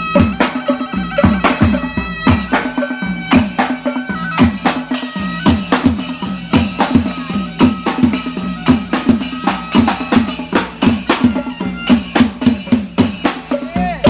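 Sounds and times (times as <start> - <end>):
drums beating fast: 0.0 - 14.0
reed-like melody: 0.0 - 14.0.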